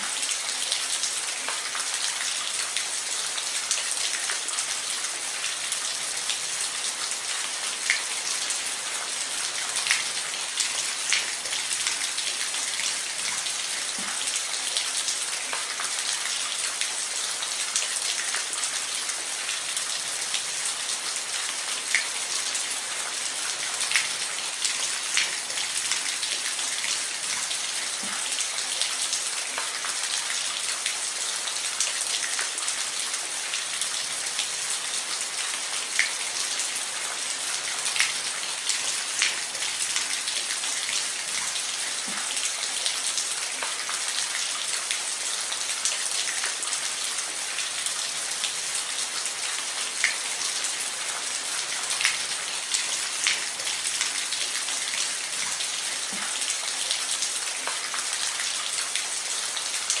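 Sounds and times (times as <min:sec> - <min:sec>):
rain on a roof: 0:00.0 - 1:00.0.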